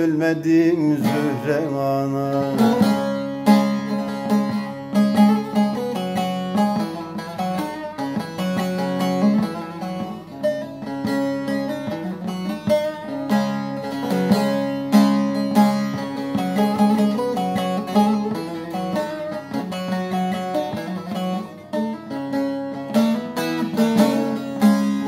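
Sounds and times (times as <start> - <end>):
plucked lute melody: 0.0 - 25.0.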